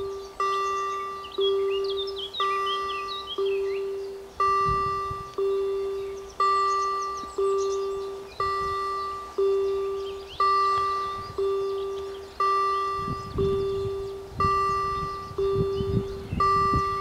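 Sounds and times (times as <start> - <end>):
level-crossing warning bells: 0.0 - 17.0.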